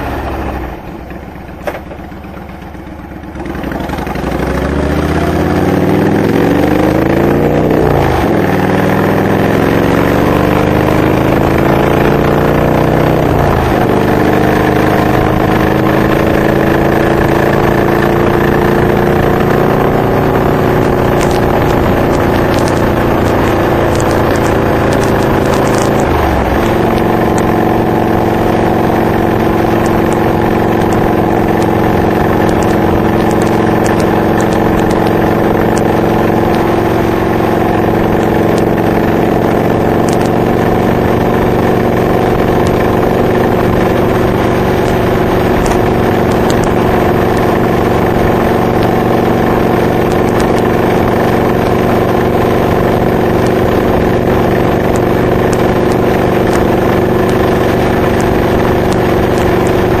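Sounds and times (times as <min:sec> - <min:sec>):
motorcycle engine shifting gears: 0:00.0 - 1:00.0.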